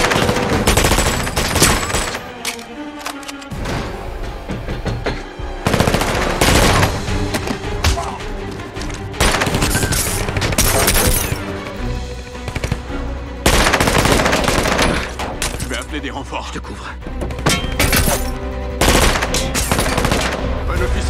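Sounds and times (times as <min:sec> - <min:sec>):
music: 0:00.0 - 0:21.0.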